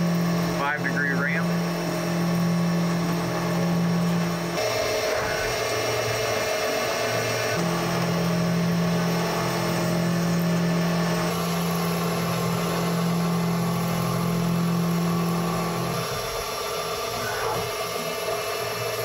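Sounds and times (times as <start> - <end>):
milling machine humming: 0.0 - 19.0.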